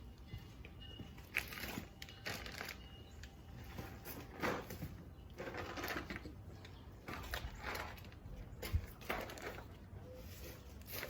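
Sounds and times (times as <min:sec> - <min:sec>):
objects rustling and scraping: 0:00.3 - 0:11.0.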